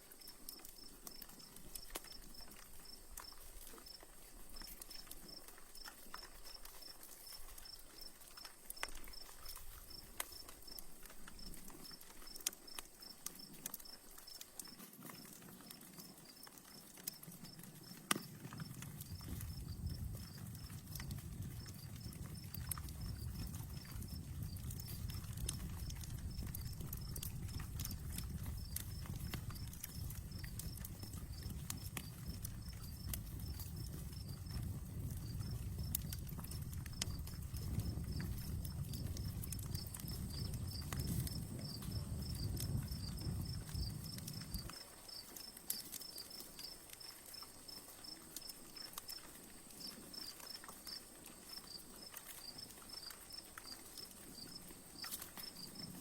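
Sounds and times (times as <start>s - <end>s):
campfire crackling: 0.0s - 56.0s
crickets chirping: 0.6s - 10.8s, 16.0s - 48.5s, 49.1s - 56.0s.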